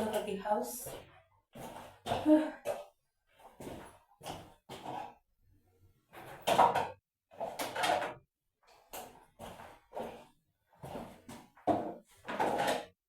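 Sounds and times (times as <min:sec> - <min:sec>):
objects knocking and scraping: 0:00.0 - 0:05.2, 0:06.1 - 0:08.2, 0:08.8 - 0:13.0.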